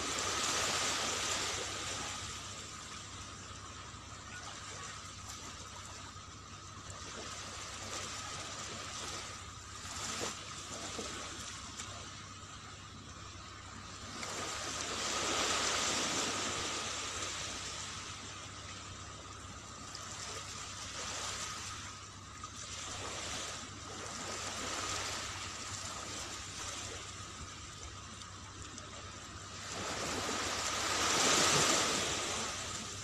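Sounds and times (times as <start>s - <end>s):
small waves washing on beach: 0.0s - 33.0s.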